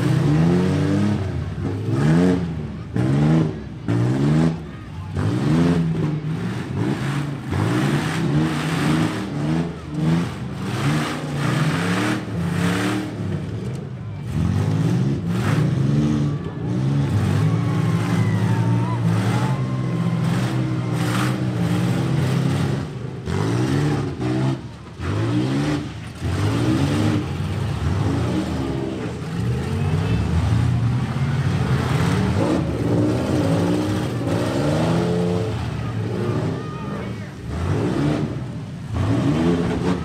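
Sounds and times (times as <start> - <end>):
truck engines revving hard: 0.0 - 40.0.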